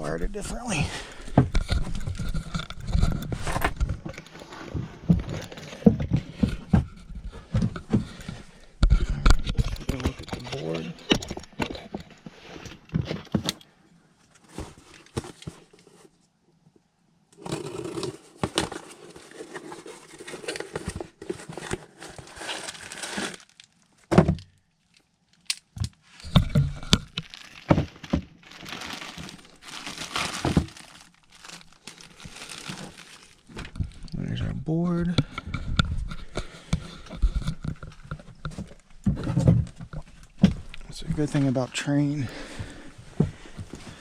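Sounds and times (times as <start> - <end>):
crinkling handling noises: 0.0 - 16.4, 17.4 - 44.0.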